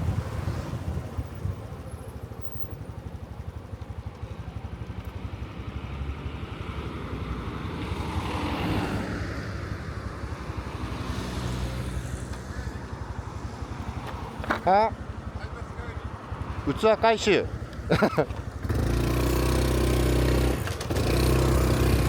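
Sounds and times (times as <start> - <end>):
small motorcycle engine running: 0.0 - 7.7, 9.8 - 22.0.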